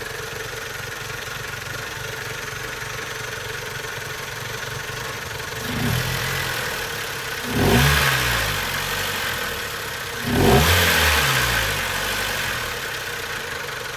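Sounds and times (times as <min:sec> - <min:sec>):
car engine idling and revving: 0:00.0 - 0:13.9.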